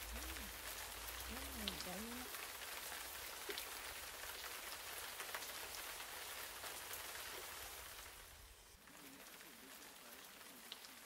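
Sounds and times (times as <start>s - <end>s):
rain falling: 0.0s - 11.0s
raindrops ticking: 0.0s - 11.0s.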